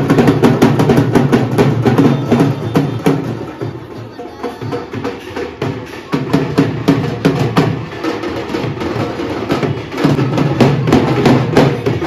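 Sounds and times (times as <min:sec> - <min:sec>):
street procession drums: 0:00.0 - 0:12.0.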